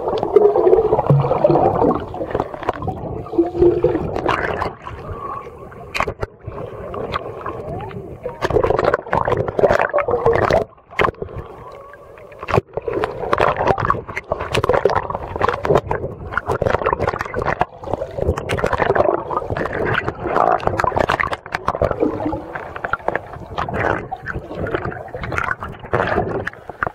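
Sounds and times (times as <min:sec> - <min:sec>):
water gurgling and sloshing: 0:00.0 - 0:26.9.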